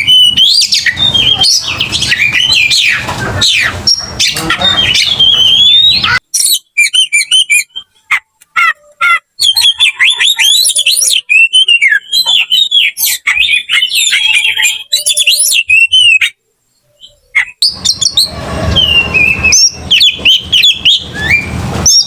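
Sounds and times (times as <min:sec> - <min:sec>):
bird singing whistles and chirps: 0:00.0 - 0:08.0, 0:09.4 - 0:22.0.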